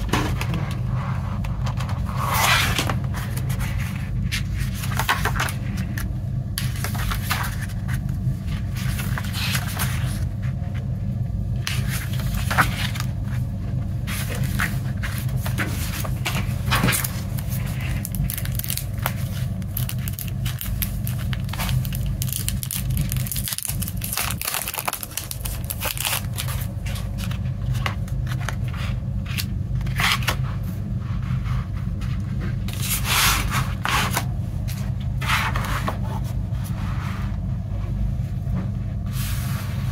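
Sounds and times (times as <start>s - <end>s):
paper pages turning: 0.0s - 10.9s, 11.6s - 30.8s, 31.4s - 37.1s
steady low hum: 0.0s - 39.9s.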